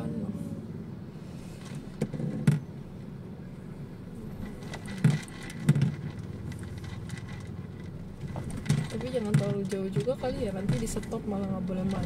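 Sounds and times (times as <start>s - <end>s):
car cabin low rumble: 1.8s - 12.0s.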